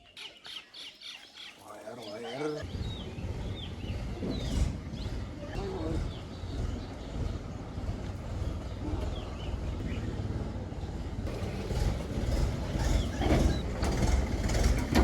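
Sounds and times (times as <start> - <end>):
tractor engine running: 2.7 - 15.0.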